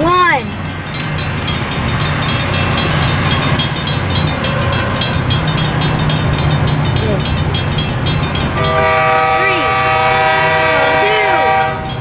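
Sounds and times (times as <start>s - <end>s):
diesel locomotive engine drone: 0.0s - 12.0s
rail and wheel noise: 0.0s - 12.0s.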